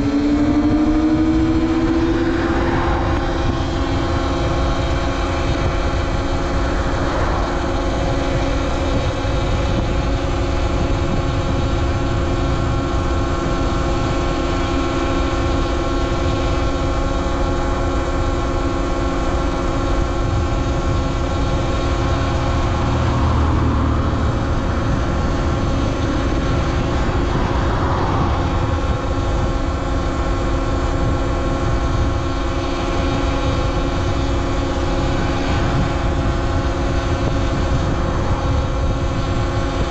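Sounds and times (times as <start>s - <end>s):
electric motor whine: 0.0s - 39.9s
low rushing noise: 0.0s - 39.9s.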